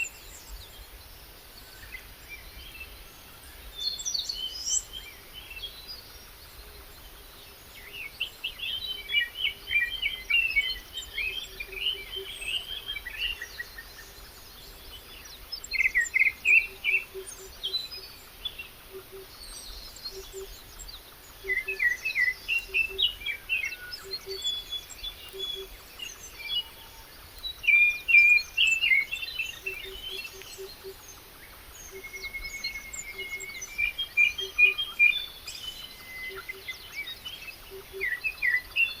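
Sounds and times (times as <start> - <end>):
faint outdoor hiss: 0.0 - 39.0
songbirds chirping: 0.0 - 39.0.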